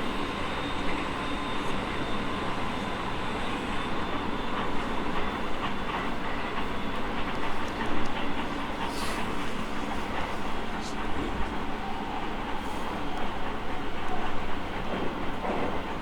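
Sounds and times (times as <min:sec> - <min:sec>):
constant whine: 0:00.0 - 0:14.4
train wheels rumbling on rail: 0:00.0 - 0:16.0.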